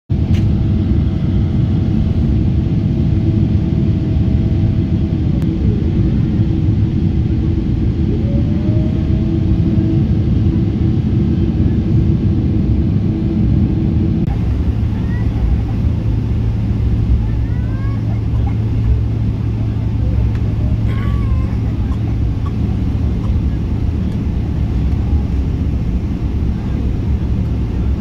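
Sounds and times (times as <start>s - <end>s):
faint engine whine: 0.1s - 28.0s
jet cabin roar: 0.1s - 28.0s.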